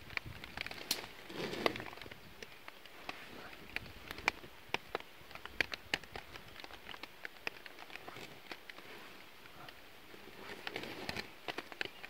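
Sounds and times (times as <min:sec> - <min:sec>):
fire crackling: 0:00.0 - 0:12.0
rain pattering: 0:00.0 - 0:12.0.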